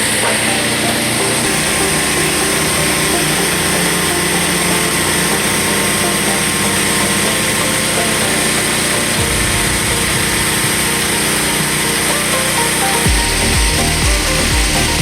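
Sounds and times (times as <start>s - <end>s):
petrol engine driving water pump: 0.0s - 15.0s.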